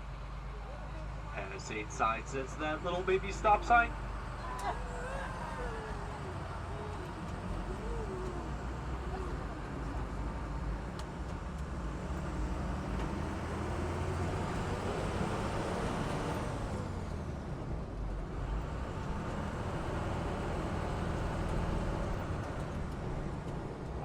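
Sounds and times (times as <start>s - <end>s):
low engine rumble: 0.0s - 24.0s
road noise: 0.0s - 24.0s.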